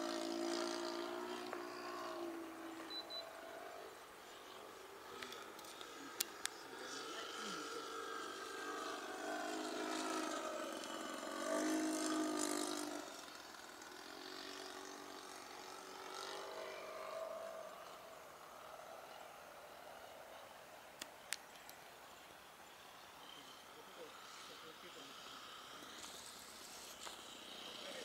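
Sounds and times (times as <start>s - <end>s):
model plane engine flying past: 0.0s - 28.0s.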